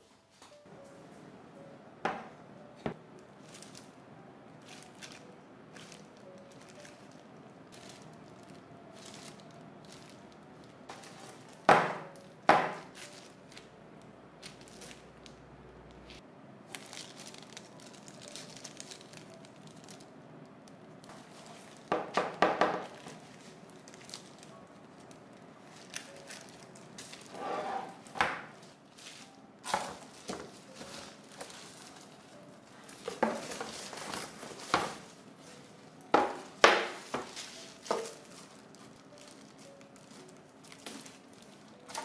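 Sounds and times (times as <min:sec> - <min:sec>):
plastic and paper crinkling: 0:03.4 - 0:04.0, 0:04.6 - 0:13.8, 0:14.4 - 0:15.4, 0:16.1 - 0:22.0, 0:22.7 - 0:42.0.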